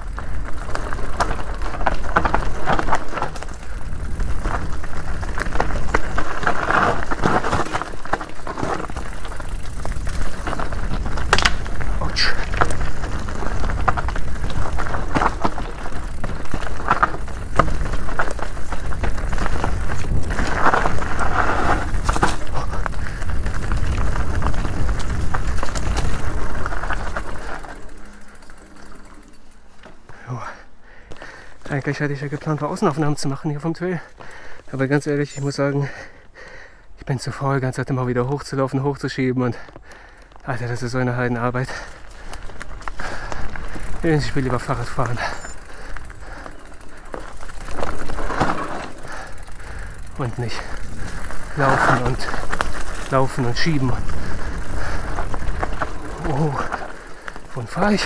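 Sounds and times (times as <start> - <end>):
bike rattling and knocking: 0.0 - 33.4, 39.6 - 58.0
tyres on dirt and rock: 0.0 - 58.0.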